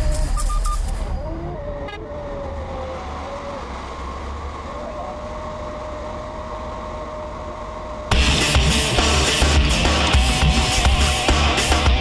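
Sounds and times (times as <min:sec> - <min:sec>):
forklift engine rumble and whine: 0:00.0 - 0:12.0.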